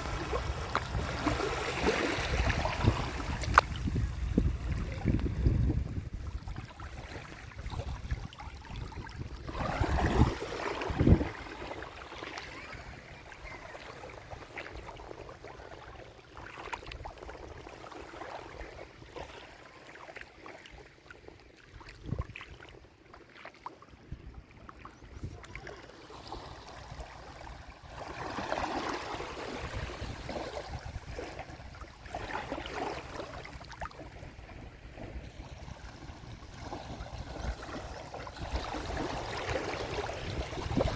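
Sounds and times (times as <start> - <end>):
small waves washing onto beach: 0.0 - 40.9.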